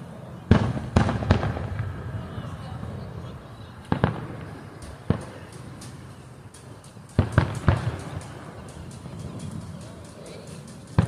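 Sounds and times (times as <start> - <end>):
faint fireworks crackling: 0.0 - 11.0
fireworks booming: 0.4 - 11.0.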